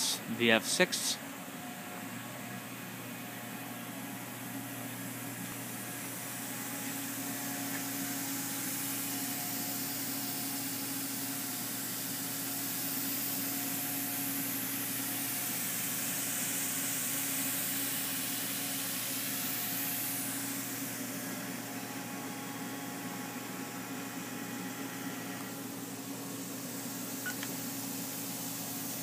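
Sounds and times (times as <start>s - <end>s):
machining centre hum and hiss: 0.0s - 29.0s.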